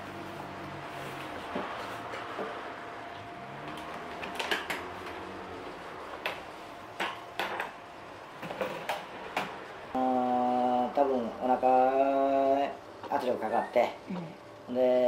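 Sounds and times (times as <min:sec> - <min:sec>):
room hiss: 0:00.0 - 0:15.0.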